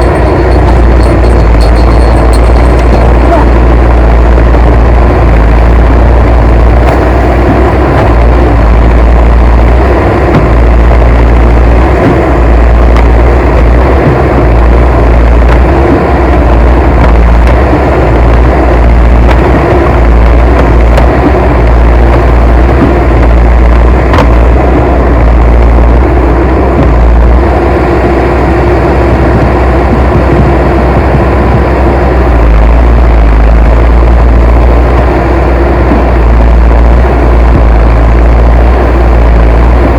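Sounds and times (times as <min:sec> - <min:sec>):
heavy machine engine droning: 0:00.0 - 0:39.9.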